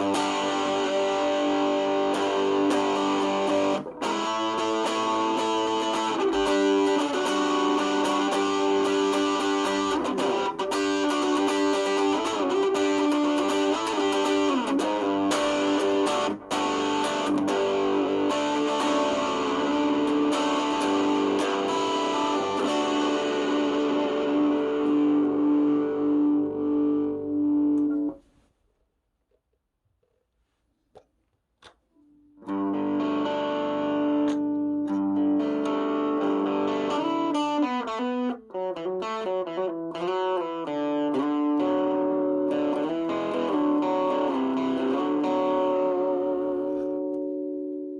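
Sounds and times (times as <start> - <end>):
distorted electric guitar: 0.0 - 28.2, 32.4 - 47.9.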